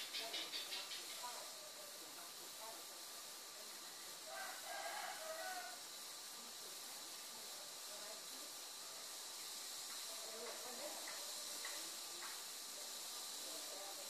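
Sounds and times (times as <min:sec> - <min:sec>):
faint distant voices: 0:00.0 - 0:14.0
steady hiss: 0:00.0 - 0:14.0.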